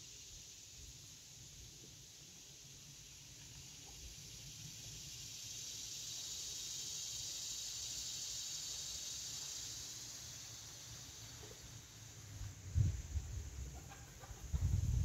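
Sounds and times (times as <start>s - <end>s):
insects buzzing drone: 0.0s - 15.0s.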